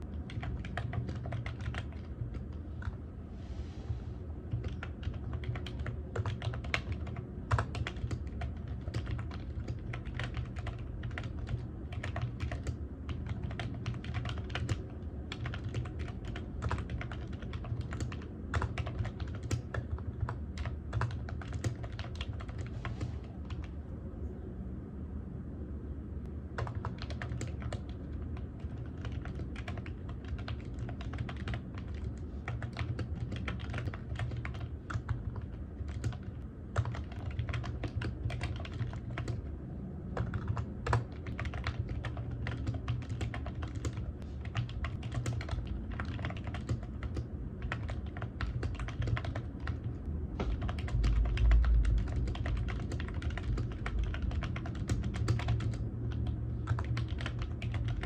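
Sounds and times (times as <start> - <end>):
typing on computer keyboard: 0.0 - 3.0, 4.5 - 23.7, 26.6 - 39.5, 40.1 - 58.0
low steady hum: 0.0 - 58.0.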